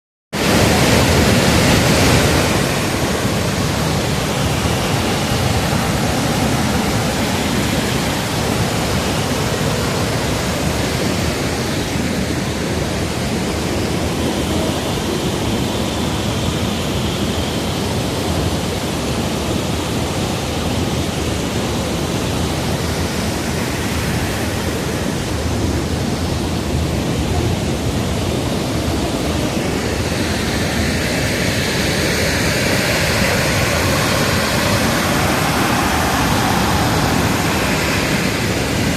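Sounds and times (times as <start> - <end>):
waterfall rushing: 0.4 - 38.9.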